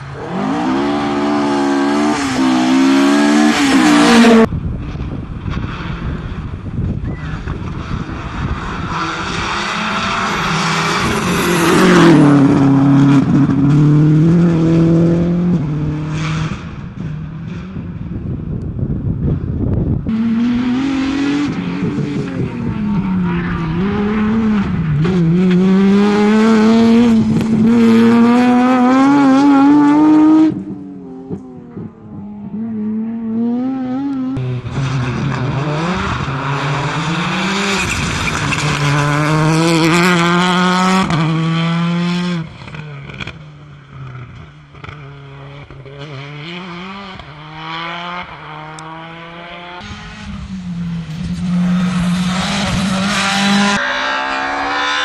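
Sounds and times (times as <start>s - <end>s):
rally car engines revving past: 0.0s - 6.6s, 7.3s - 18.4s, 19.2s - 55.0s.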